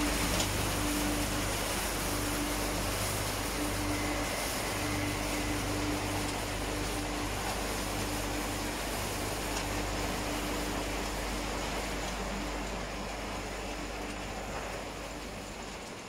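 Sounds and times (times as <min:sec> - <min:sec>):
mesh conveyor running: 0:00.0 - 0:16.0
motors and blower fans humming: 0:00.0 - 0:16.0.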